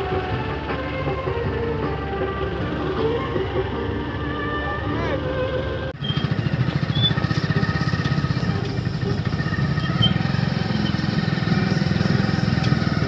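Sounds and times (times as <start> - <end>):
vehicle engine throbbing: 0.0 - 13.0.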